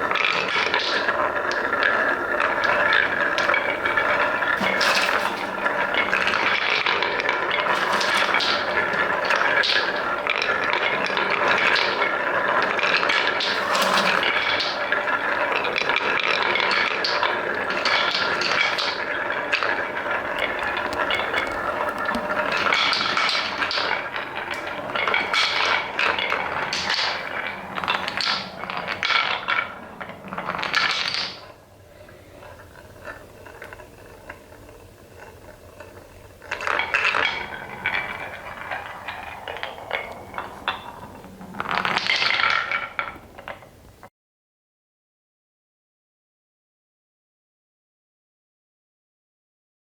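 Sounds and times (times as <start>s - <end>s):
wooden balls rolling and clattering: 0.0s - 44.1s.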